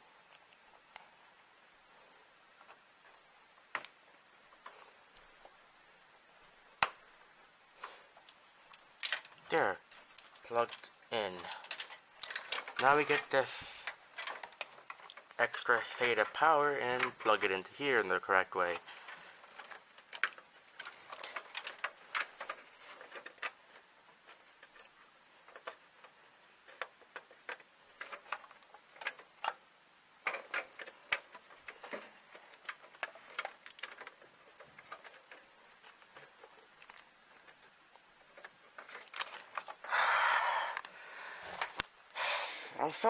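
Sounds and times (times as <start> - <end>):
handling rustle: 6.4 - 42.0.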